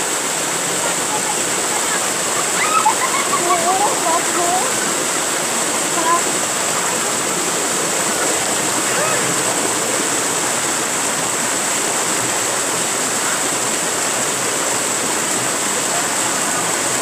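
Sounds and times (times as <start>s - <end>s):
water pouring over boulders: 0.0s - 17.0s.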